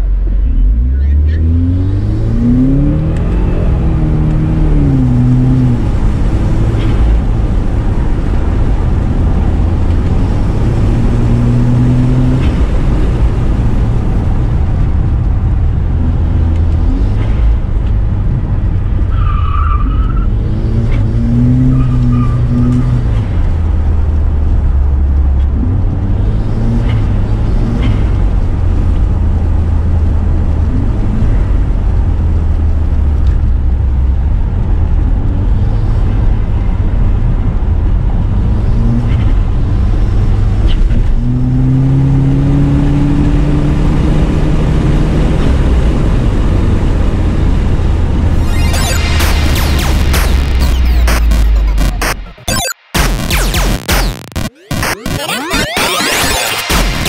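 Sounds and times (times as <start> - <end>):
car engine revving: 0.0 - 37.0, 38.1 - 57.0.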